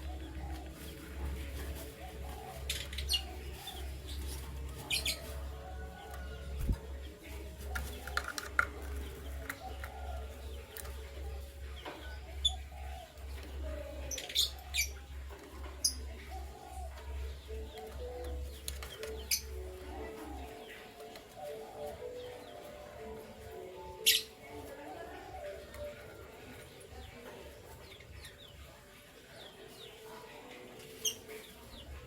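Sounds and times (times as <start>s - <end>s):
canaries chirping: 0.0s - 32.0s.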